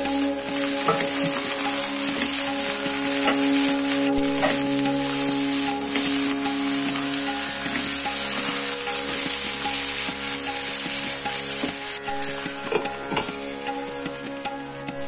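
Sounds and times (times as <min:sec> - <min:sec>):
soft background music: 0:00.0 - 0:15.0
vegetables sizzling in oil: 0:00.0 - 0:15.0
spatula scraping pan: 0:00.2 - 0:13.9.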